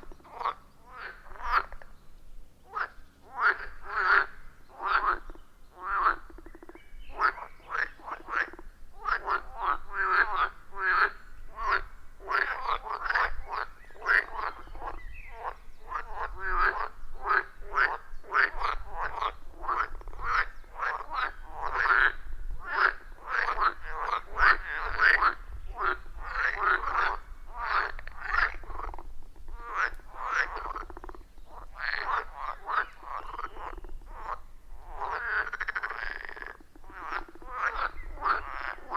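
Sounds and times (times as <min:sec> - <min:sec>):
chorus of frogs croaking: 0:00.0 - 0:02.0, 0:02.7 - 0:38.9.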